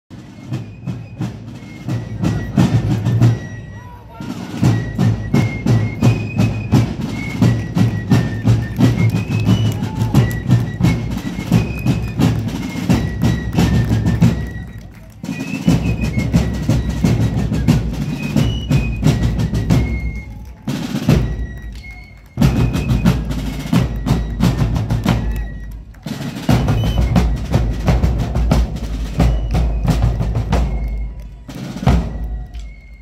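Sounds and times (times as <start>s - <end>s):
snare and bass drums: 0.1s - 33.0s.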